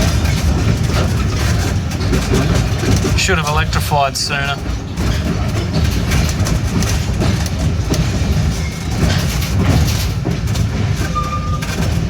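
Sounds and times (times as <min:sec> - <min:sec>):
train rumbling: 0:00.0 - 0:12.0
wheels clacking on track: 0:00.0 - 0:12.0.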